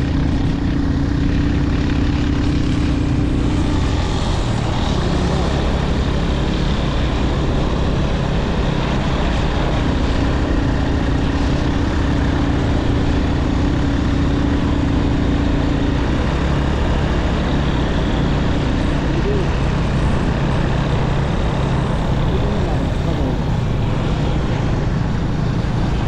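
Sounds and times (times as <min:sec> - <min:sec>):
motorcycle engine hum: 0:00.0 - 0:26.0
road noise: 0:00.0 - 0:26.0.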